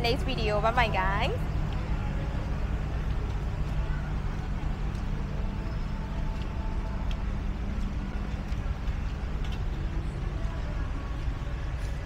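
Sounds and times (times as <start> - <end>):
diesel bus engine idling: 0.0 - 12.0
traffic on wet street: 0.0 - 12.0.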